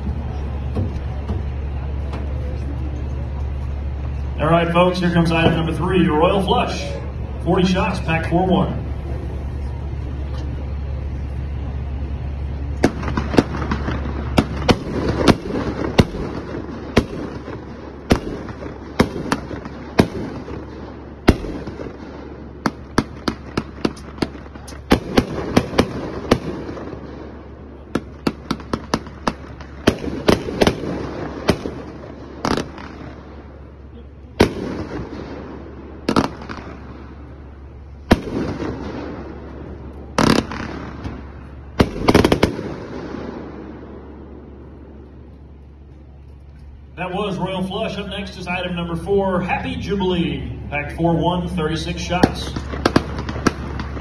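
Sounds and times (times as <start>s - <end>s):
fireworks shots and bursts: 0.0s - 46.2s, 46.8s - 54.0s
fireworks crackling: 0.0s - 54.0s.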